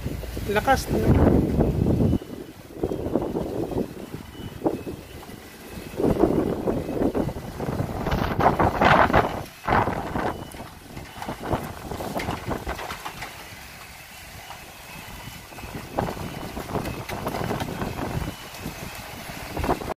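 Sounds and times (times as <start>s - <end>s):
wind rumbling on microphone: 0.0s - 19.9s.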